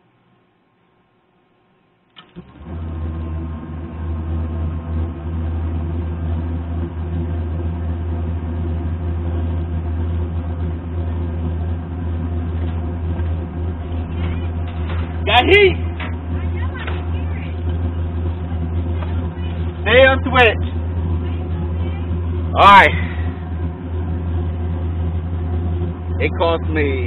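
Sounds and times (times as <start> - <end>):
furnace blower motor humming: 2.1 - 27.0.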